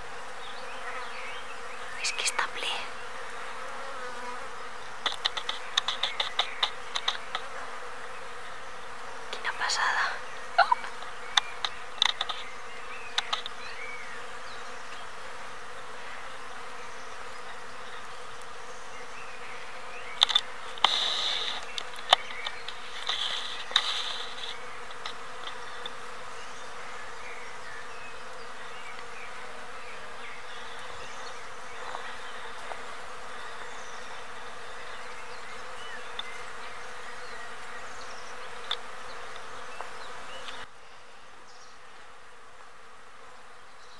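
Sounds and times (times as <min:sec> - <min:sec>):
bees buzzing: 0:00.0 - 0:43.9.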